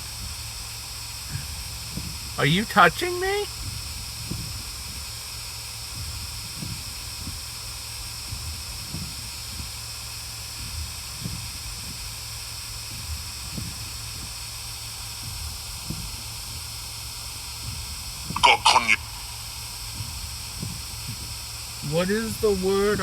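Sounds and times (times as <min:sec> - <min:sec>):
soft low thumps: 0:00.0 - 0:23.0
steady hiss: 0:00.0 - 0:23.0.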